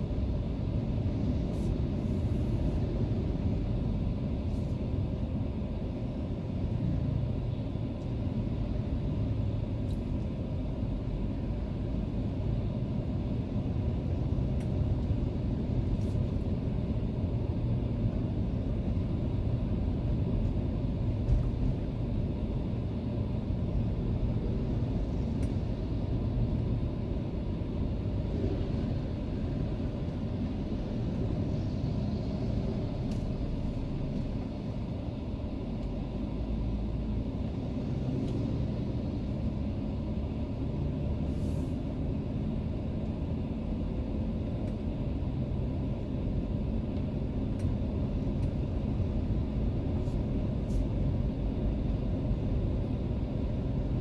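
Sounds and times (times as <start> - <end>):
engine and road rumble in car: 0.0 - 54.0.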